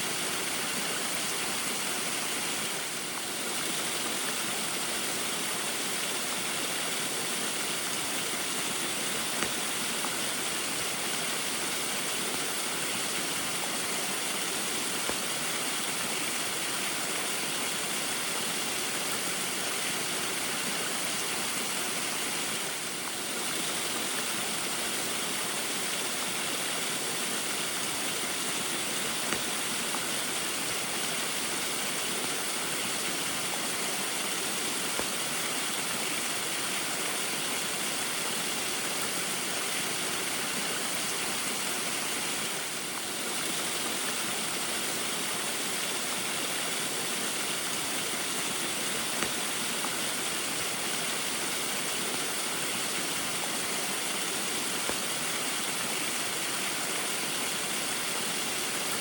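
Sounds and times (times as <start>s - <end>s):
small waterfall splashing: 0.0s - 59.0s.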